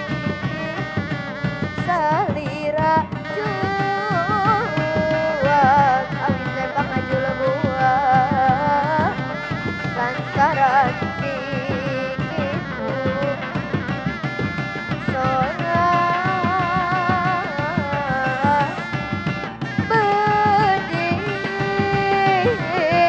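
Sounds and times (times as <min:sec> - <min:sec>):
hand drumming: 0:00.0 - 0:23.0
wavering folk melody: 0:00.0 - 0:23.0.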